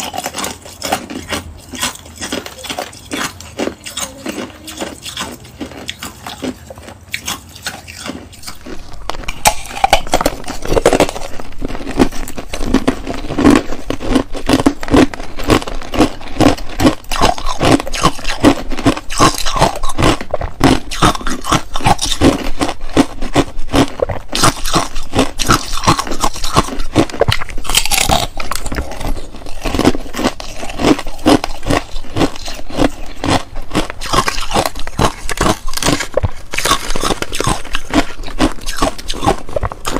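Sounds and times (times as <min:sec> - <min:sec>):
ice crunching: 0:00.0 - 0:39.9
ice cubes scraping and clinking: 0:00.0 - 0:39.9.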